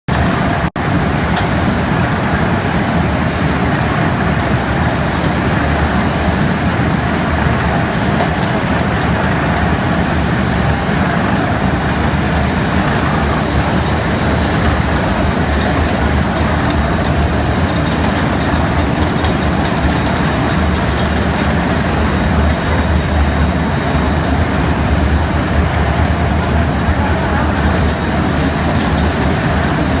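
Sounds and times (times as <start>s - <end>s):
oil press machine droning: 0.1s - 30.0s.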